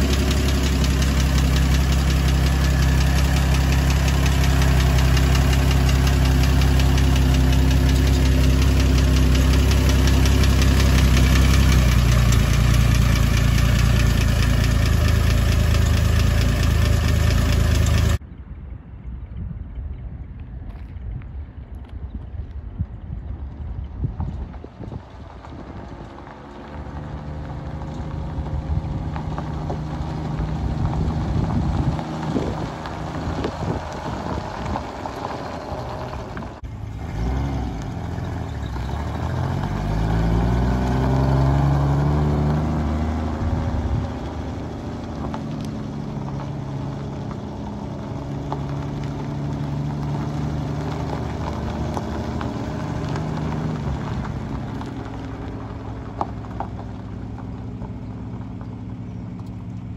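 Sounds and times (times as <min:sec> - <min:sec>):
car engine running: 0:00.0 - 0:18.2, 0:24.6 - 0:59.9
tyres rolling on gravel: 0:00.0 - 0:18.2, 0:24.2 - 0:59.9.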